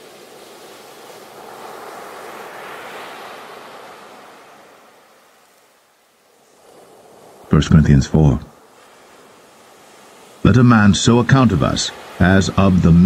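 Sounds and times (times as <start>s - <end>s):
ocean wave breaking: 0.0s - 13.0s.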